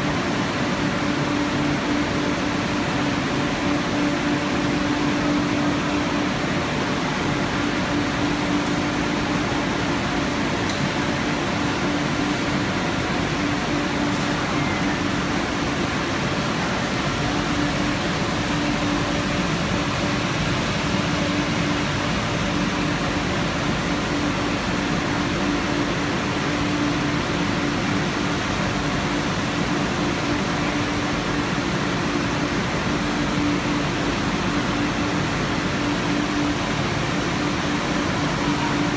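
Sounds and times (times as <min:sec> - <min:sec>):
constant low hum: 0:00.0 - 0:38.9.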